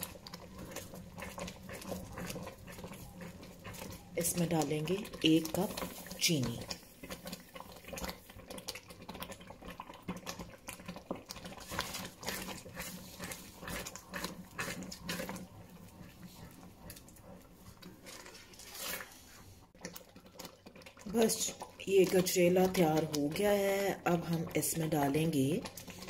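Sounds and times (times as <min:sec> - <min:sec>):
wooden spoon stirring in pot: 0:00.0 - 0:26.0.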